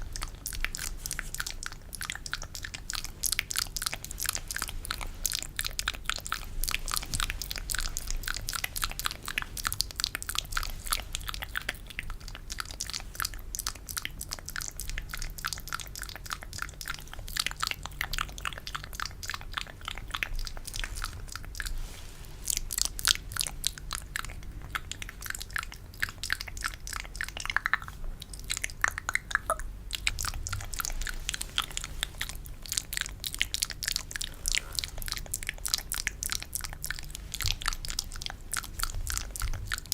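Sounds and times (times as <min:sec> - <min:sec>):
wet mouth clicks and smacks: 0:00.0 - 0:39.9.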